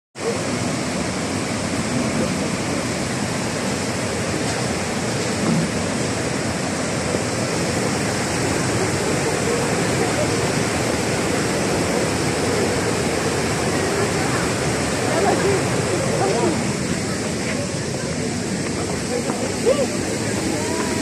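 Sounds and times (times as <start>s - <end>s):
water rushing down a cascade: 0.2s - 21.0s.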